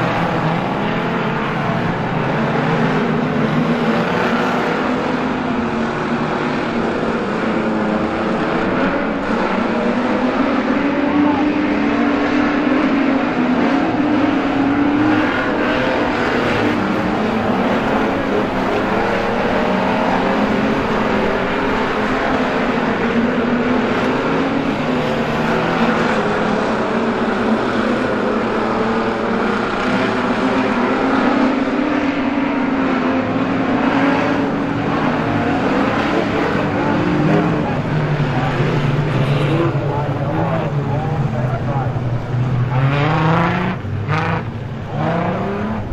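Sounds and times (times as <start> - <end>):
race car engines droning: 0.0 - 45.9.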